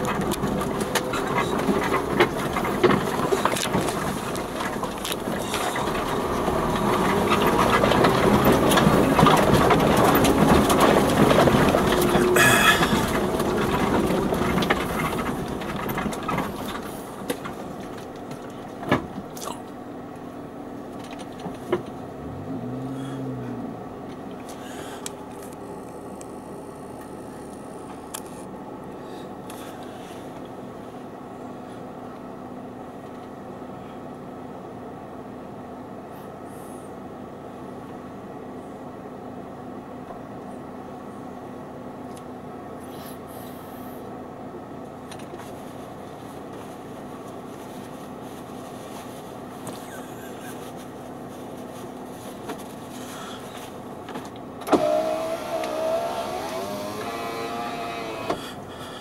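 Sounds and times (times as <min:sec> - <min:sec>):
engine idling quietly: 0:00.0 - 0:59.0
off-road vehicle driving on grass: 0:00.0 - 0:59.0.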